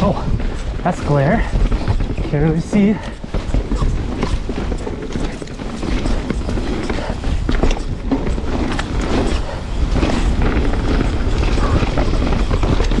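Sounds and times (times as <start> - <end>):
bike rattling over ground: 0.0 - 13.0
bike tyres rumbling on dirt: 0.0 - 13.0
wind on microphone: 0.0 - 13.0.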